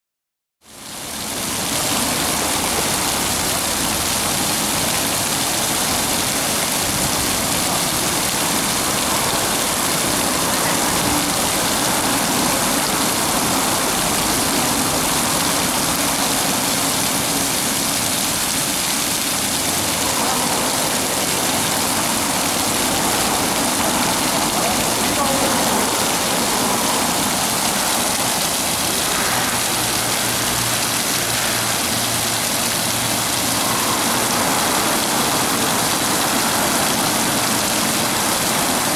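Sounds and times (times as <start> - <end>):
fountain water splashing on tiles: 0.6 - 38.9.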